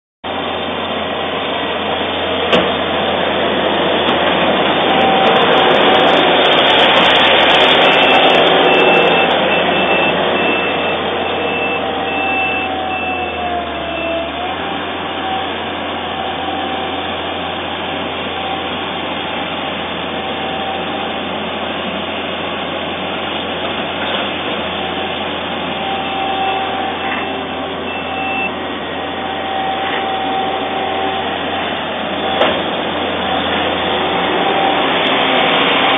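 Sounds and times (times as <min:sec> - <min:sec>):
skid steer loader engine running: 0:00.2 - 0:35.9.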